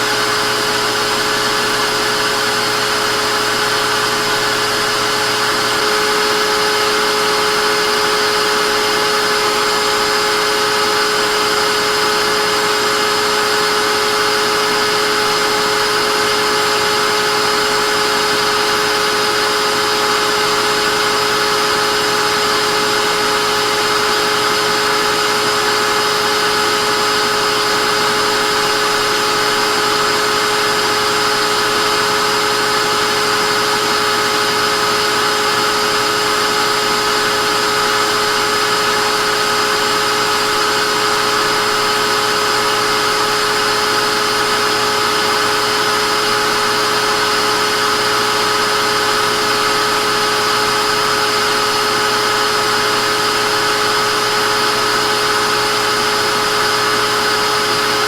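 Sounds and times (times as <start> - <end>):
vacuum cleaner motor running: 0.0 - 58.0.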